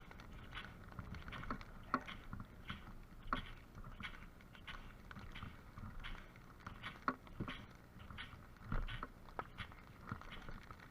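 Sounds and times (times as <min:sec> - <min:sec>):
sharp dry crackles: 0:00.0 - 0:10.9.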